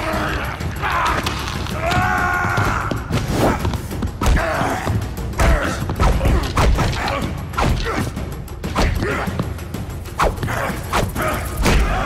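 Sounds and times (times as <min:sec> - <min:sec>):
action music: 0:00.0 - 0:12.0.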